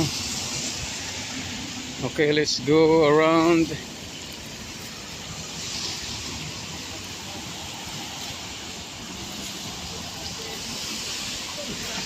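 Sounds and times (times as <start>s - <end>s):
rain: 0.0s - 12.0s
traffic on wet roads: 0.0s - 12.0s.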